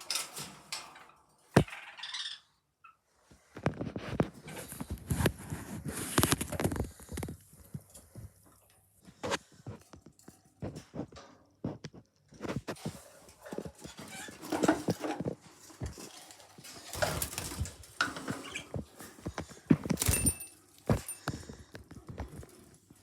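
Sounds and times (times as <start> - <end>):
baby birds clicking and scratching: 3.6 - 23.0.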